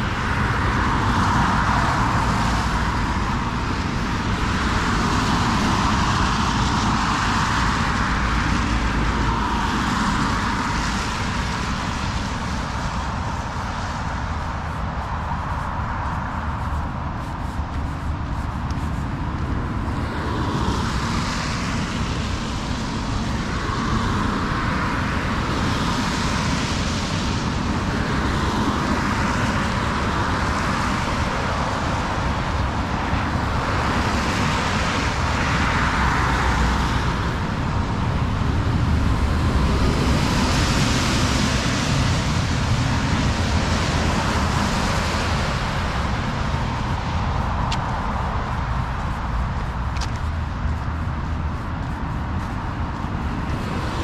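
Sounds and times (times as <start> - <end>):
cars passing with tyre hiss: 0.0 - 54.0
low rumble of traffic: 0.0 - 54.0.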